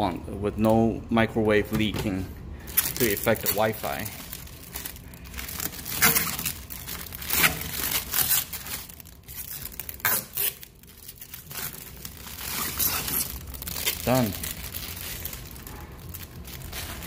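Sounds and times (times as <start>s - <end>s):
plastic film crinkling and tearing: 2.6s - 17.0s.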